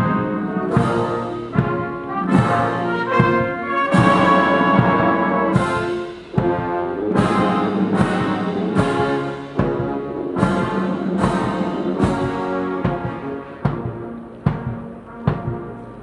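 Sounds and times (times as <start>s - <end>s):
brass band playing funeral march: 0.0s - 16.0s
regular drum stroke: 0.0s - 16.0s.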